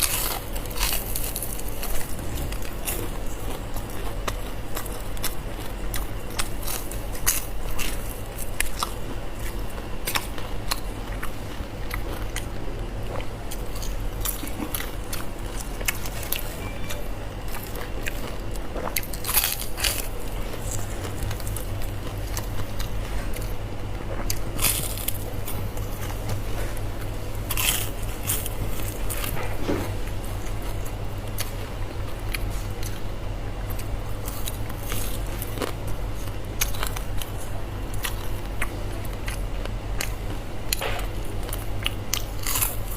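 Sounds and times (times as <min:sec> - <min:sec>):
crunching fried food: 0:00.0 - 0:42.9
low steady hum: 0:00.0 - 0:42.9
wet chewing: 0:00.0 - 0:42.9.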